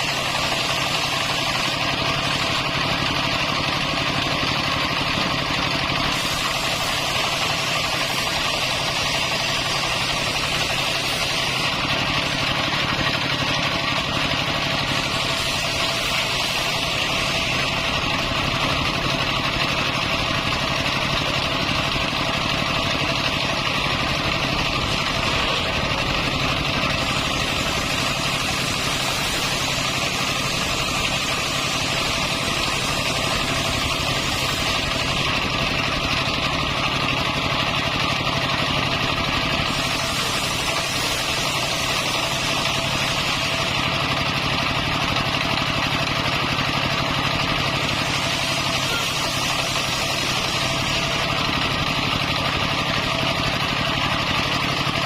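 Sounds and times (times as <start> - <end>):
circular saw motor drone: 0.0 - 55.0
saw blade hiss: 0.0 - 55.0.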